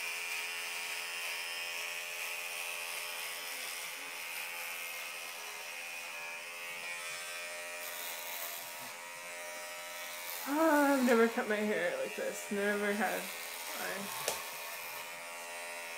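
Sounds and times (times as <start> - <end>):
electric hair clippers buzzing: 0.0 - 15.9.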